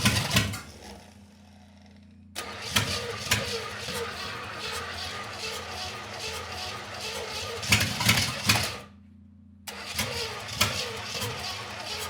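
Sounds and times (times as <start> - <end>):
car engine cranking: 0.0 - 1.4, 2.4 - 8.9, 9.7 - 12.0.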